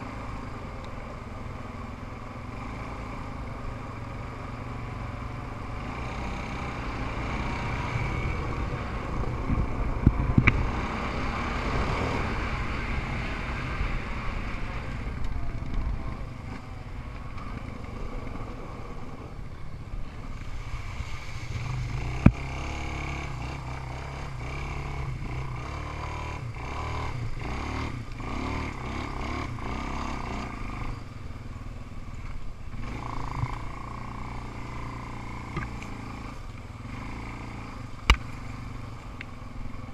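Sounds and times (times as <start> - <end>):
off-road engines revving: 0.0 - 39.9.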